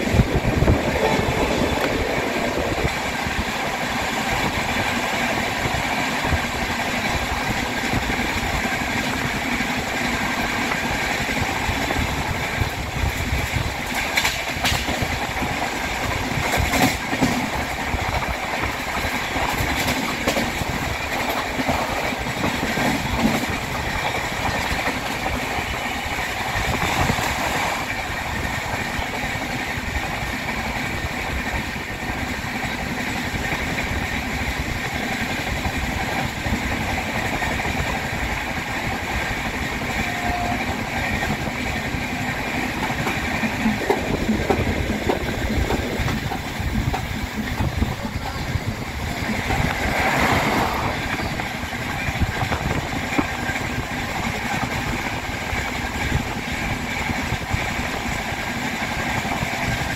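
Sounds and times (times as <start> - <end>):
train wheels clickety-clack on rails: 0.0 - 59.9.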